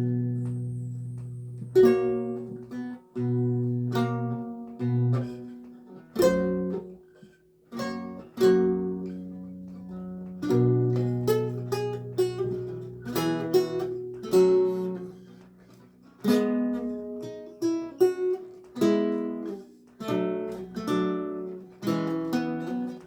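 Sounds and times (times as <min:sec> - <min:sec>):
solo lute plucked: 0:00.0 - 0:23.0.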